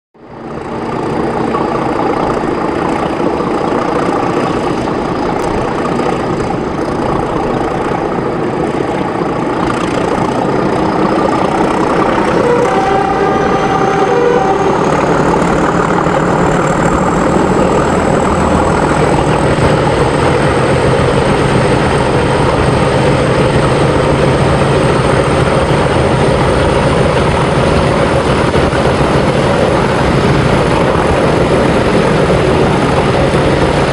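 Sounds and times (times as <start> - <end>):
diesel locomotive engine: 0.2 - 33.9.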